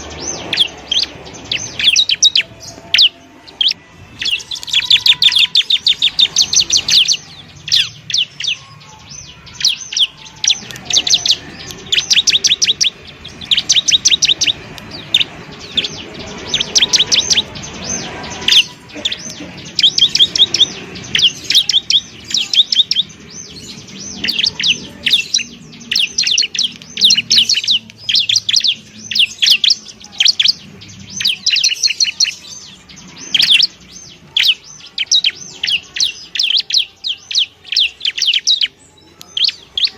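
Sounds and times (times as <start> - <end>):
bird singing rapid ticking notes: 0.0 - 39.9.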